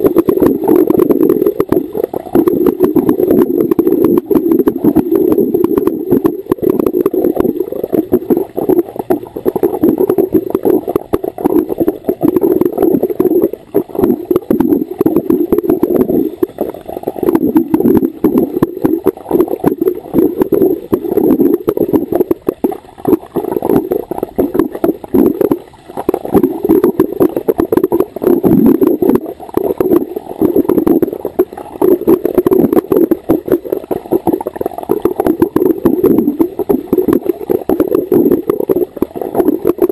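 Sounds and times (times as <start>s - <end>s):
underwater exhaust bubbles: 0.0s - 39.9s.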